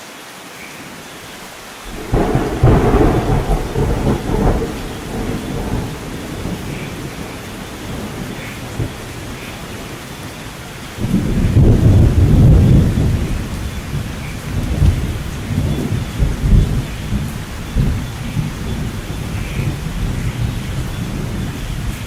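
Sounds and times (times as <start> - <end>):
steady rain: 0.0 - 22.0
rolling thunder: 1.9 - 22.0.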